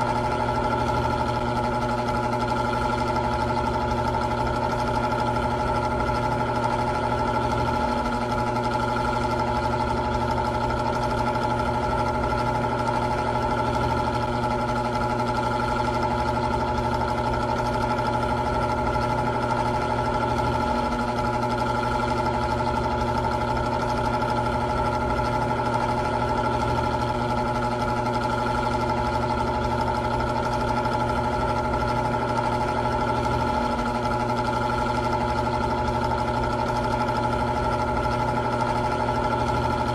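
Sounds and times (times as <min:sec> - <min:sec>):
electric fan motor hum: 0:00.0 - 0:39.9.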